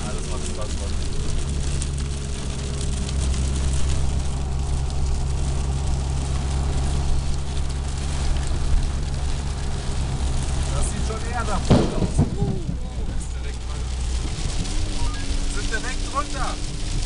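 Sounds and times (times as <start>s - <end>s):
car engine and road hum: 0.0s - 17.0s
rain pattering on car roof: 0.0s - 17.0s.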